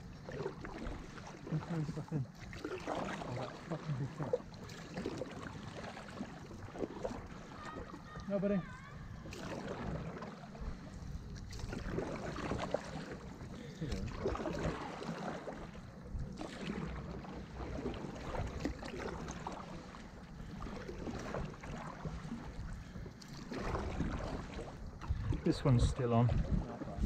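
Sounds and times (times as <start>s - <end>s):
paddles splashing through water: 0.0s - 27.0s.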